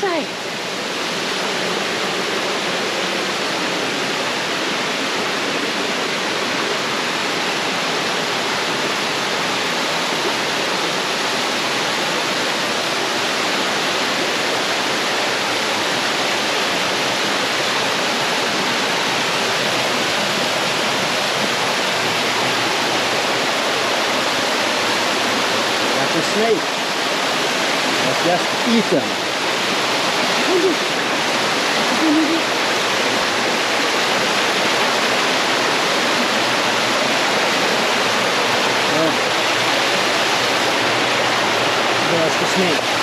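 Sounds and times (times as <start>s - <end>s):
waterfall rushing over rocks: 0.0s - 43.0s.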